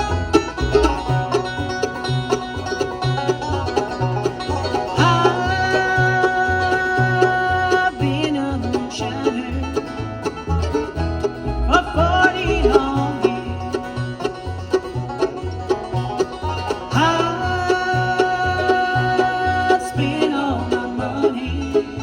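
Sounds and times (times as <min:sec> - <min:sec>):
bluegrass band playing: 0:00.0 - 0:22.0
sliding melody line: 0:00.0 - 0:22.0.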